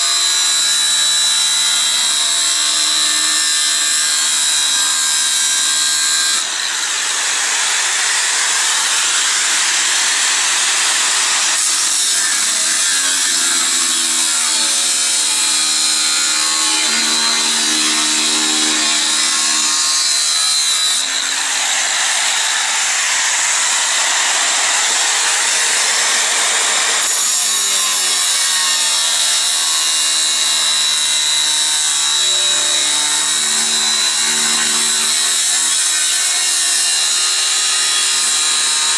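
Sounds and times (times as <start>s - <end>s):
angle grinder cutting steel: 0.0s - 38.9s
grinder motor whine: 6.4s - 27.0s, 27.8s - 38.9s.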